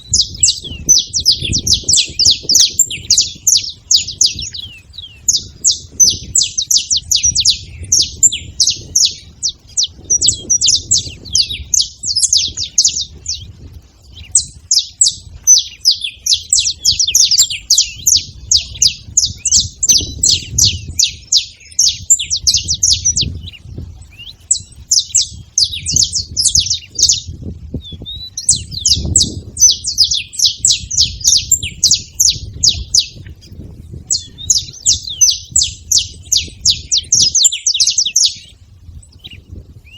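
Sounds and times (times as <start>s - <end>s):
finches chirping: 0.0s - 38.6s.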